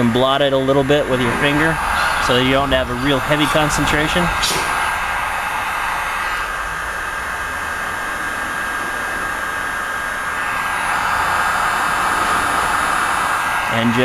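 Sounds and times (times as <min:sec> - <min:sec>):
hot-air dryer blowing: 0:00.0 - 0:14.0.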